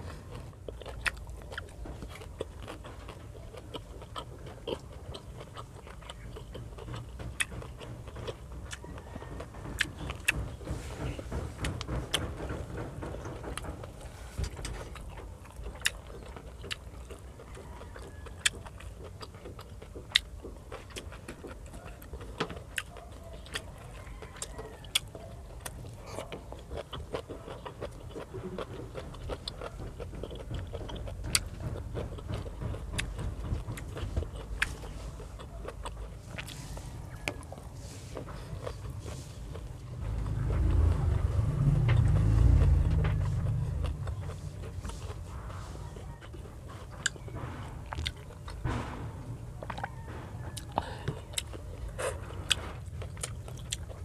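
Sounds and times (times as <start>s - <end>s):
low steady hum: 0.0s - 54.0s
person chewing food: 0.0s - 54.0s.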